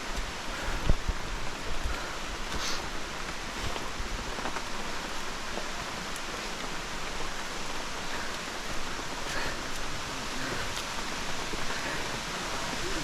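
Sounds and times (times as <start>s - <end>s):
steady hiss of water: 0.0s - 13.0s.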